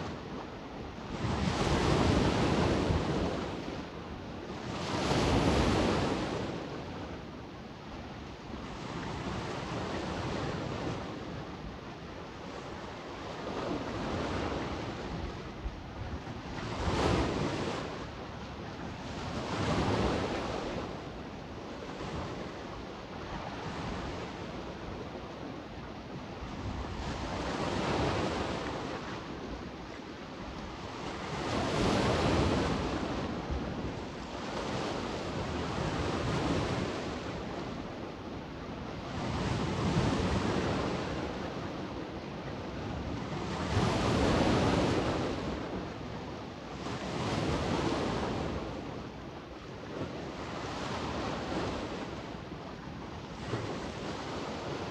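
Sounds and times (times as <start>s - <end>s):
sea waves breaking on shore: 0.0s - 54.9s
wind rumble on microphone: 0.0s - 54.9s.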